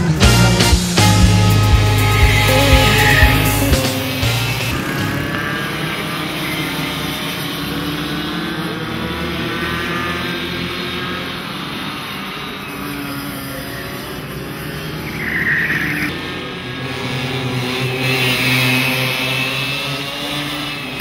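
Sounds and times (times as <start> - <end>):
go-kart engines whining: 0.0 - 21.0.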